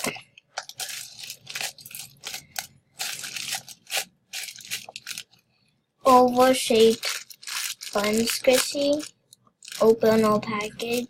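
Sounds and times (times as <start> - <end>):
plastic packaging crinkling: 0.0 - 5.4, 6.1 - 11.0.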